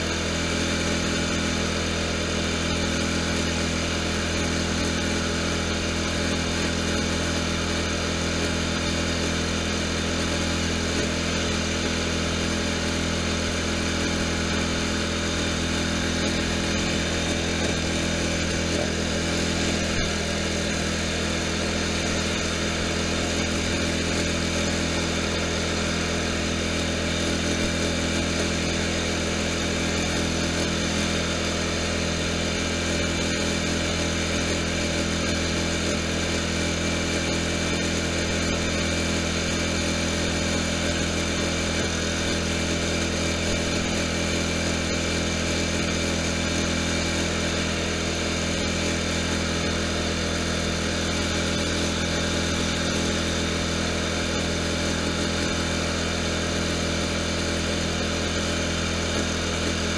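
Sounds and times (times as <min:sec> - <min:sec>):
lawn tractor engine droning: 0:00.0 - 0:59.9.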